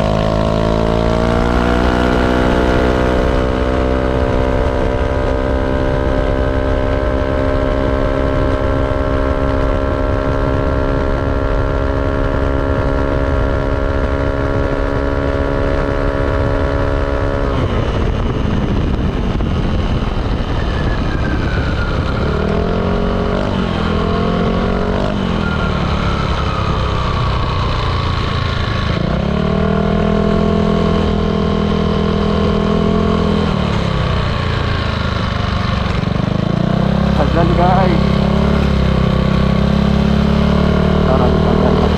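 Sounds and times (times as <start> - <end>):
scooter engine droning: 0.0 - 41.9.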